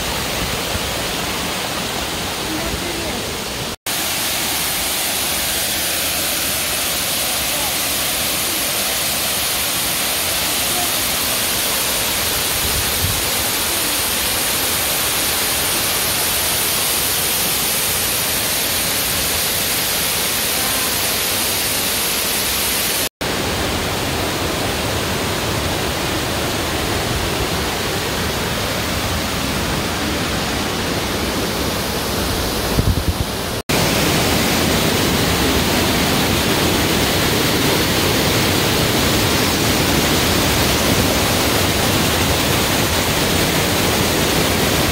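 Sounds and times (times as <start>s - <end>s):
waterfall rushing: 0.0s - 44.9s
whitewater rushing through rock channel: 0.0s - 44.9s.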